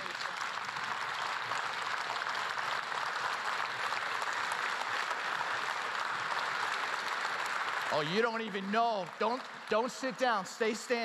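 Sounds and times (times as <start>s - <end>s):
congregation applauding: 0.0s - 11.0s.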